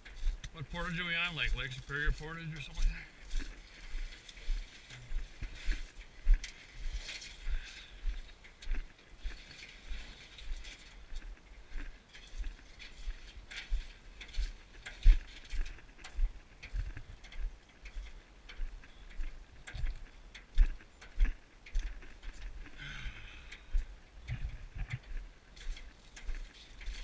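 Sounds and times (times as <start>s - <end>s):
footsteps on dirt trail: 0.0s - 27.0s.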